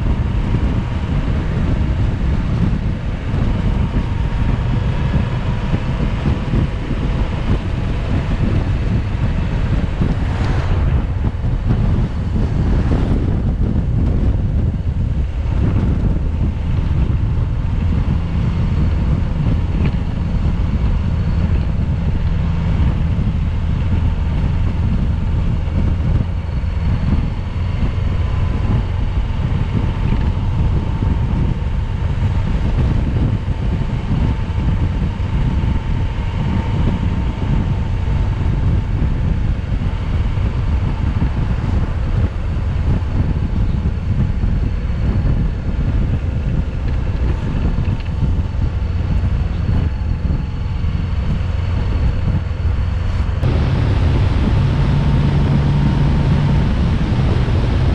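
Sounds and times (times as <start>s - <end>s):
faint held whine: 0.0s - 57.9s
vehicle engine and tyres: 0.0s - 57.9s
wind buffeting microphone: 0.0s - 57.9s.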